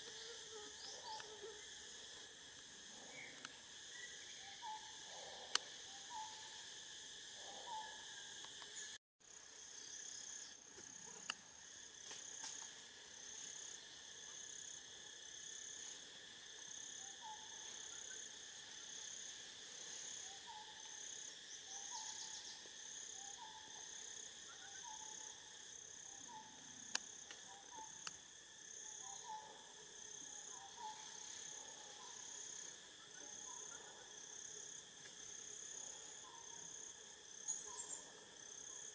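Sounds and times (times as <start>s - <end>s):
pulsing insect chorus: 0.0s - 38.9s.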